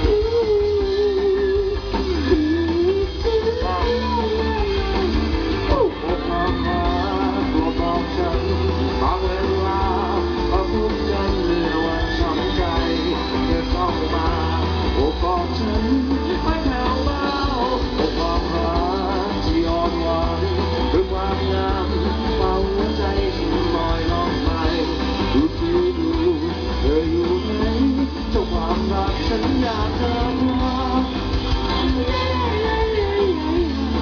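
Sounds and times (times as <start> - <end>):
live rock band playing: 0.0 - 34.0
person singing: 0.0 - 34.0.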